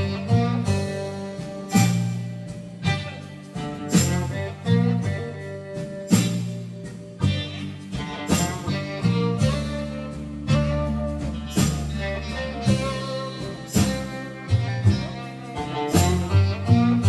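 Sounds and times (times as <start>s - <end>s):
music with steady beat: 0.0s - 17.0s.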